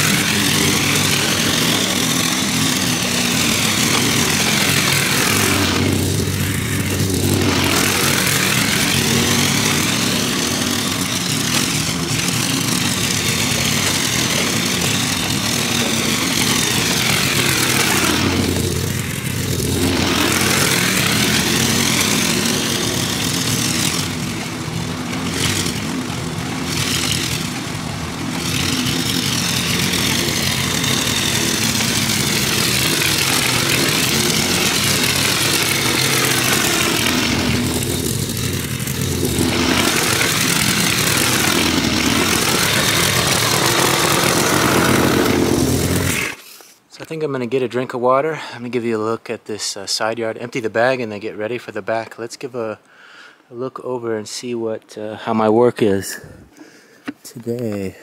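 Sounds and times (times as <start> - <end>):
lawn mower engine cutting grass: 0.0 - 46.8.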